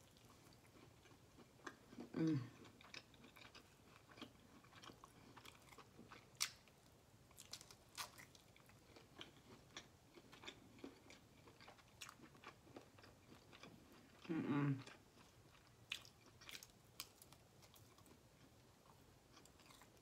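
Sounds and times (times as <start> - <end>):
close chewing and biting: 0.1 - 6.7, 7.3 - 20.0.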